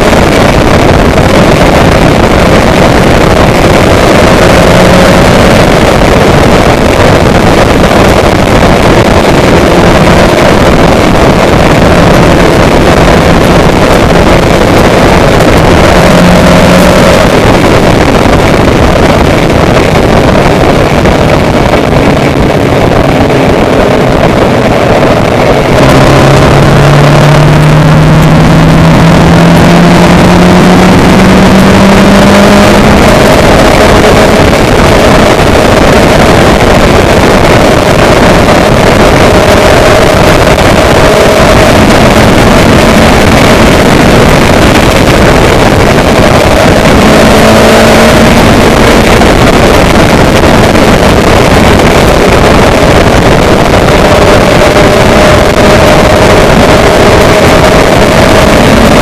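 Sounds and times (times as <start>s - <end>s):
droning vehicle engine: 0.0s - 59.0s
wind noise on microphone: 0.0s - 59.0s.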